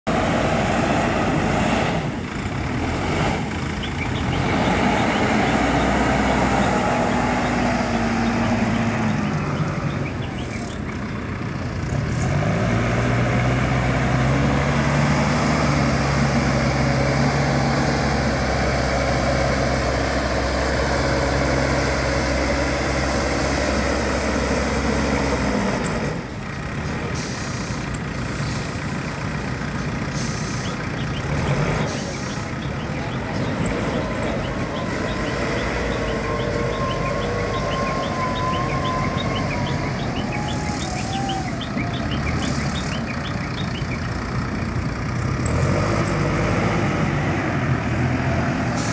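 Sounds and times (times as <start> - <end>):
diesel engine running under load: 0.1 - 48.9.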